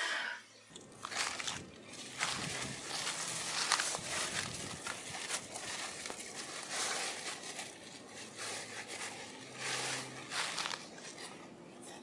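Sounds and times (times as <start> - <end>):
steady outdoor hiss: 0.0 - 12.0
rustling bursts: 1.0 - 11.3.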